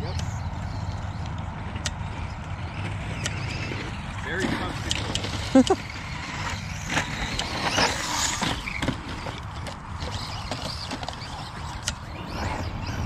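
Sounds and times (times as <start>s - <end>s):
rc car motors whining: 0.0s - 13.0s
tyre noise: 0.6s - 13.0s.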